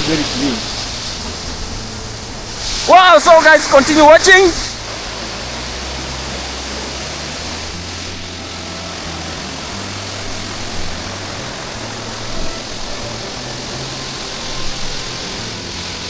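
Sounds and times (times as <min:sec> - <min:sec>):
falling water rushing: 0:00.0 - 0:16.0
low background music: 0:00.0 - 0:16.0.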